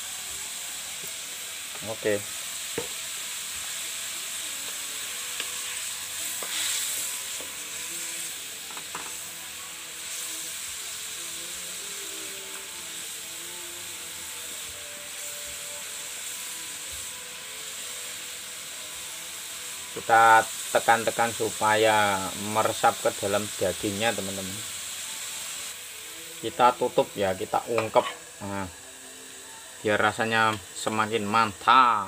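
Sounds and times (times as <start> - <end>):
sauce sizzling in a wok: 0.0 - 32.0.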